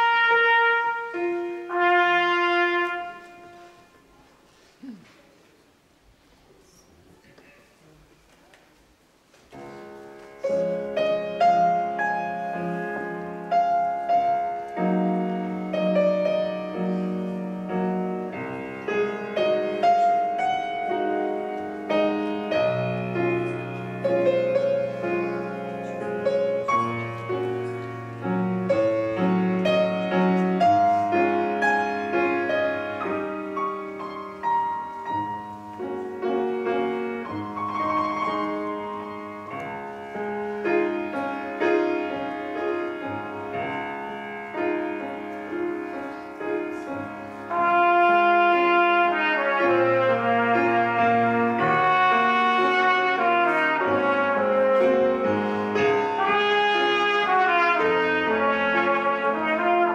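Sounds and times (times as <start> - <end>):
grand piano chords and melody: 0.0 - 4.0, 9.5 - 59.9.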